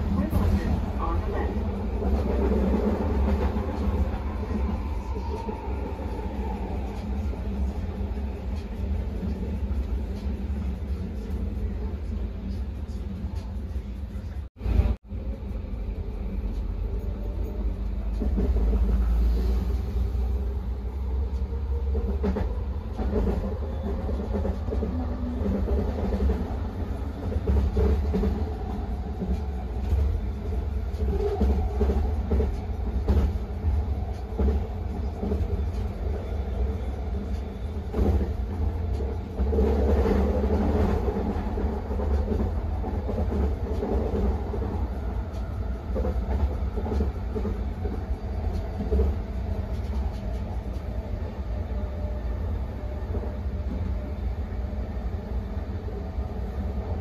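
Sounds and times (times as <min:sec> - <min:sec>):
train rumbling along track: 0:00.0 - 0:57.0.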